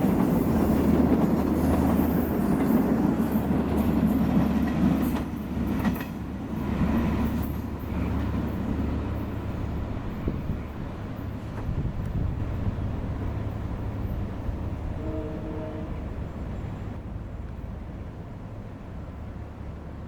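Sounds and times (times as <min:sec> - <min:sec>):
train rolling on rails: 0:00.0 - 0:20.0.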